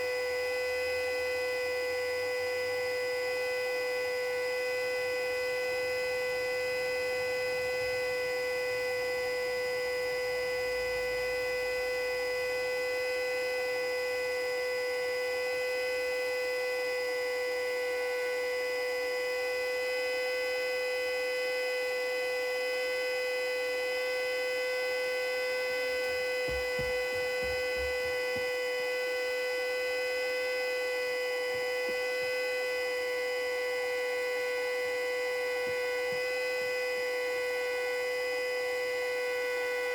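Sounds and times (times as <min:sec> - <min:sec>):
siren steady tone: 0:00.0 - 0:39.9.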